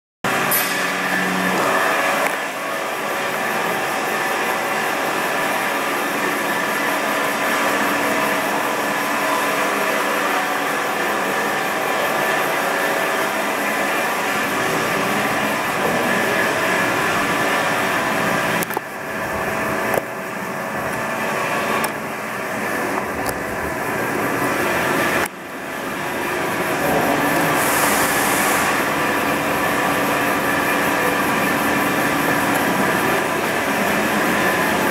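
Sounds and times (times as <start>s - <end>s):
lathe machine whir: 0.3s - 34.9s.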